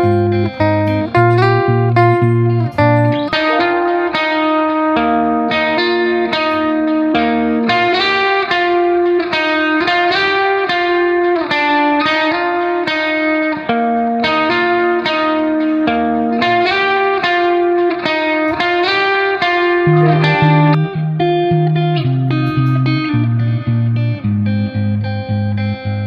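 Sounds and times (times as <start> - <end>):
plucked guitar melody: 0.0 - 26.0.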